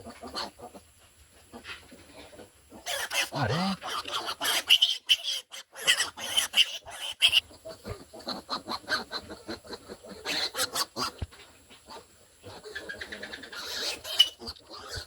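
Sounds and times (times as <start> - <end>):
piglets squealing and grunting: 2.2 - 11.2, 11.9 - 15.0.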